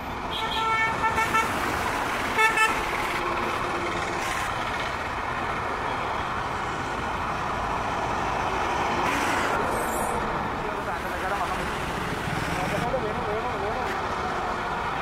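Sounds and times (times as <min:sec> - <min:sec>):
bus and truck engines: 0:00.0 - 0:15.0.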